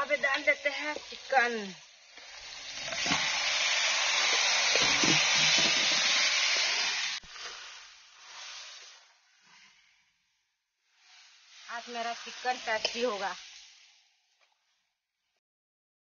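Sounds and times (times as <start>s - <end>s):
chicken sizzling in hot oil: 0.0s - 14.4s
faint sizzle while stirring: 0.0s - 15.4s.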